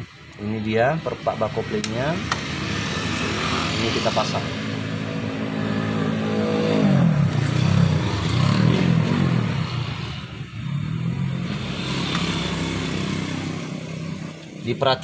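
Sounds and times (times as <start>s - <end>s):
motorcycle engine revving: 0.4s - 15.0s.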